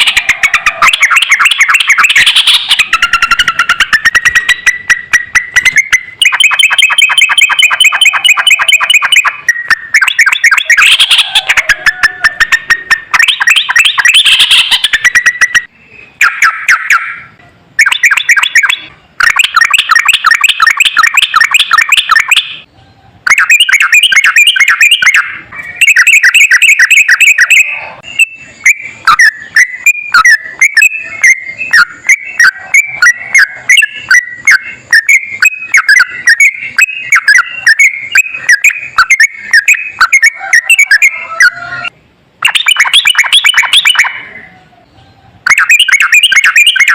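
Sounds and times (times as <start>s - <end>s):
bird singing rapid warbling song: 0.0s - 41.4s.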